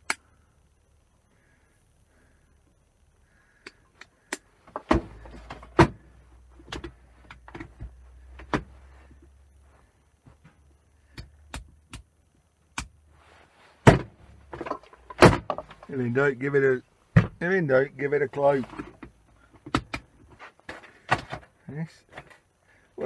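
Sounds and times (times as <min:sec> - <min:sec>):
electric heater humming: 0:00.0 - 0:23.0.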